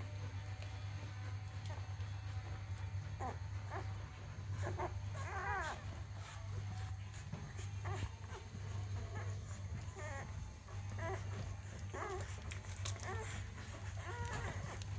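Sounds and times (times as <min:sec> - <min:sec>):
puppies squeaking and whimpering: 0:00.3 - 0:14.9.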